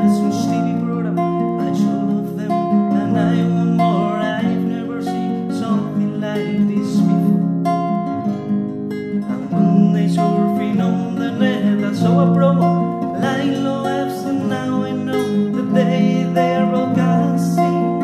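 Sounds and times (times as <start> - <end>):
person singing: 0.0 - 7.4, 9.2 - 18.0
strummed acoustic guitar: 0.0 - 18.0.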